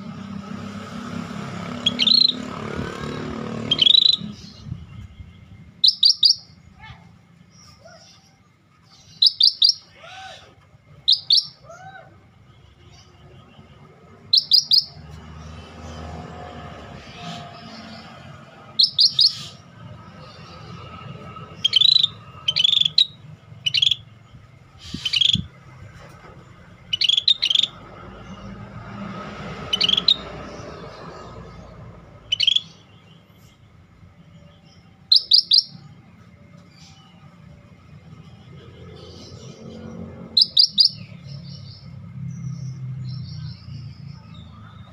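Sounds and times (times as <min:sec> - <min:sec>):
bird chirping: 0:00.0 - 0:10.0, 0:10.9 - 0:11.8, 0:12.5 - 0:44.9.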